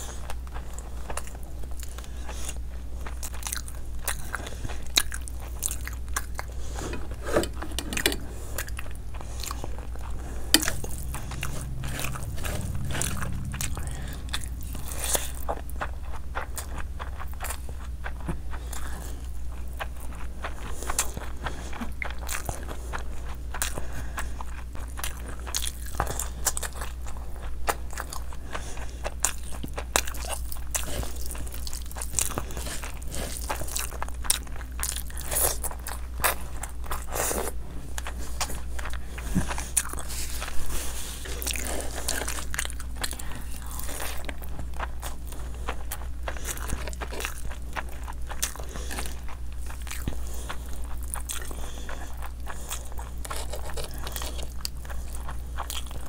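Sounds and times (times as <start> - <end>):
steady low hum: 0.0 - 56.0
wet chewing sounds: 0.0 - 56.0.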